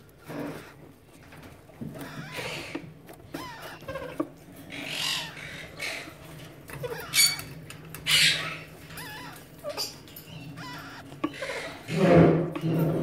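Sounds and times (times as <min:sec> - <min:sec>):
parakeet harsh calls: 0:00.0 - 0:12.6.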